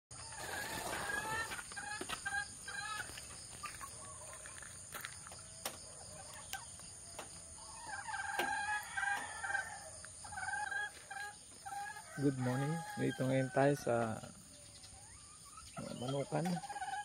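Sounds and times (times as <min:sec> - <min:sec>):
chickens clucking: 0:00.1 - 0:17.0.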